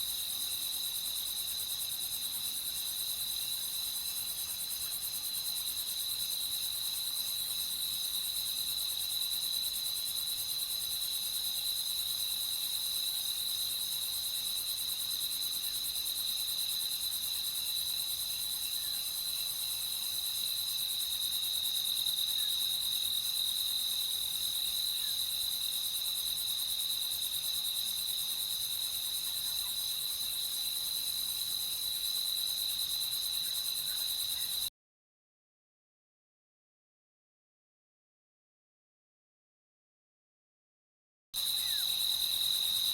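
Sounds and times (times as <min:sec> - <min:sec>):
crickets chirping: 0:00.0 - 0:34.7, 0:41.4 - 0:42.9.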